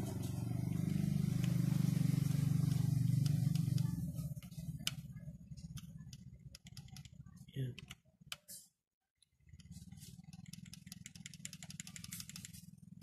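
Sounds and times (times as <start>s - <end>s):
motorcycle engine idling: 0.0s - 8.6s, 9.3s - 13.0s.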